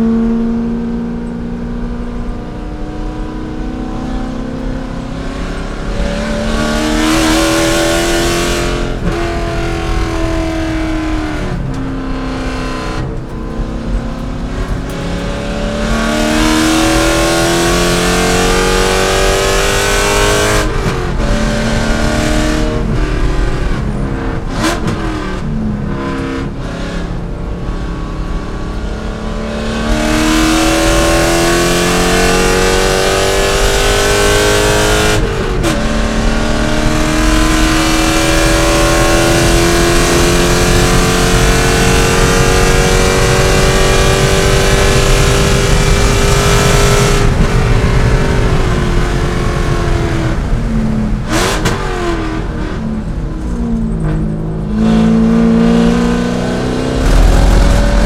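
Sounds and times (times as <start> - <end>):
engine throttle blips: 0.0 - 58.0
racing car engine revving: 0.0 - 58.0.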